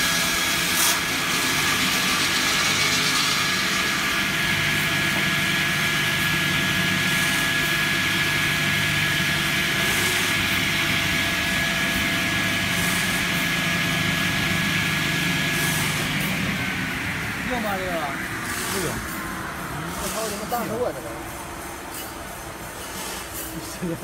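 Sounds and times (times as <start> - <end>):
log saw running: 0.0 - 21.2.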